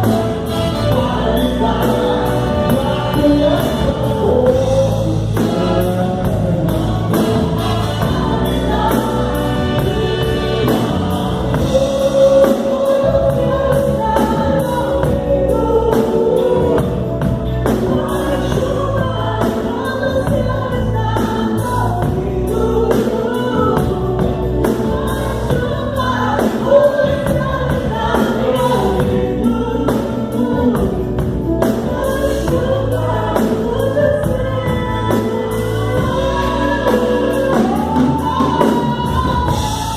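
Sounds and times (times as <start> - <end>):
band accompaniment: 0.0 - 39.9
steady drum beat: 0.0 - 39.9
voices singing together: 0.0 - 39.9.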